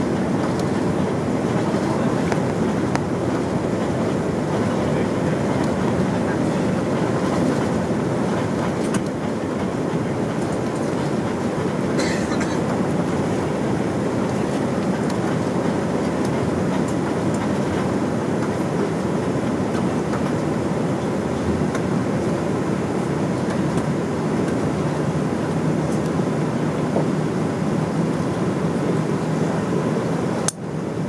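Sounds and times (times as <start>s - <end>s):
aircraft cabin engine rumble: 0.0s - 31.0s.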